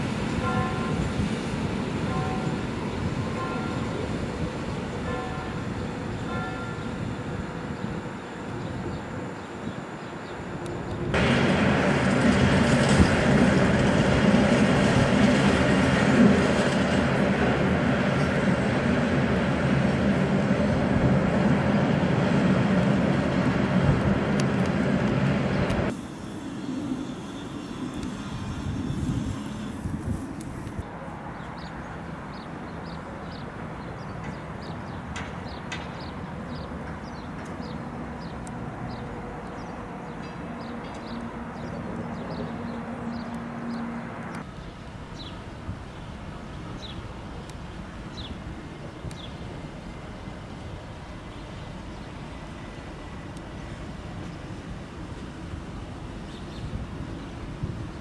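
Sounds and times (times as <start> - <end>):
electric locomotive approaching slowly: 0.0 - 58.0
train rumbling on tracks: 0.0 - 58.0.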